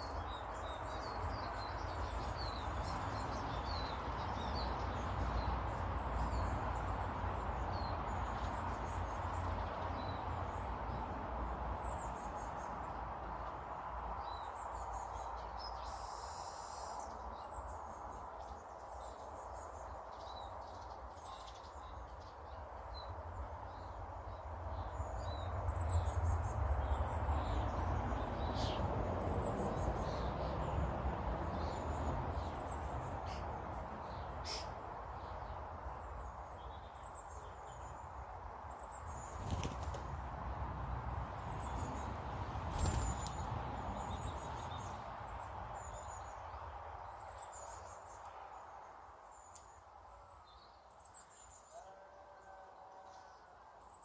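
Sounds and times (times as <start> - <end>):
small birds chirping: 0.0 - 40.3, 41.3 - 51.9.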